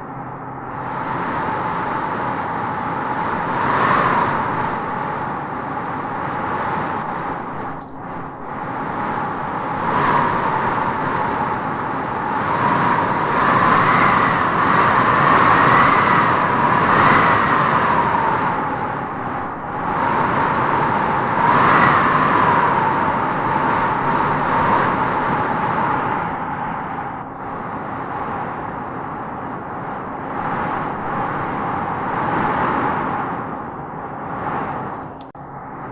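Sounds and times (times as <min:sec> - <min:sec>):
howling wind: 0:00.0 - 0:35.9.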